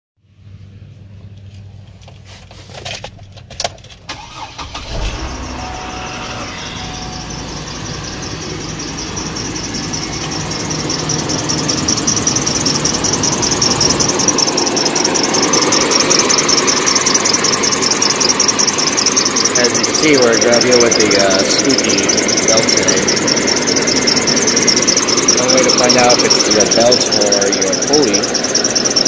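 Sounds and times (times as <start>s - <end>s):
car engine idling: 0.2s - 29.0s
engine starter clicks: 2.1s - 29.0s
drive belt squealing: 4.1s - 29.0s.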